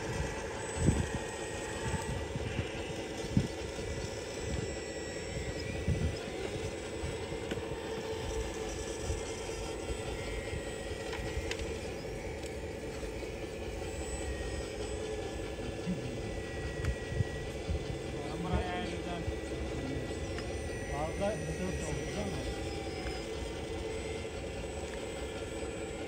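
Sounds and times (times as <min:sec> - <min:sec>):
toy excavator motors whining: 0:00.0 - 0:26.0.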